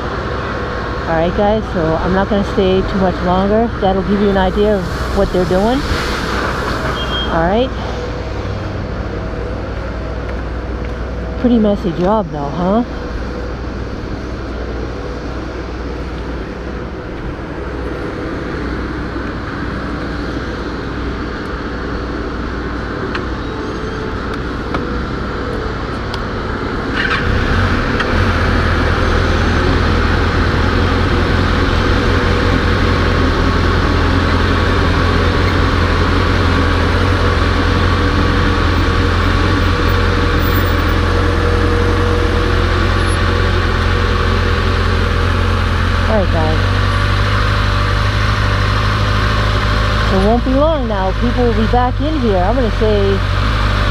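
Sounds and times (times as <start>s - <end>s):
backhoe engine running: 6.4s - 53.9s.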